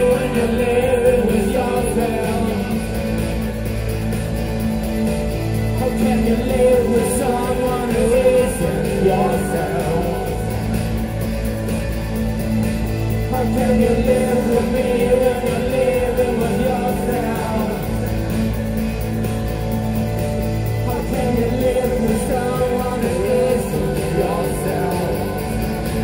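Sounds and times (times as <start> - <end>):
man singing lead vocal: 0.0 - 4.6, 5.6 - 12.4, 13.2 - 19.5, 20.7 - 26.0
live rock band playing: 0.0 - 26.0.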